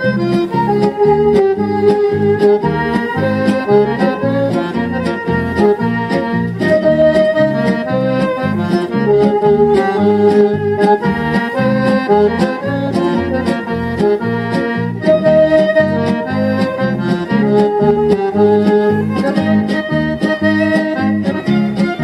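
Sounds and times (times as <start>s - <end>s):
instrumental music from record player: 0.0s - 22.0s.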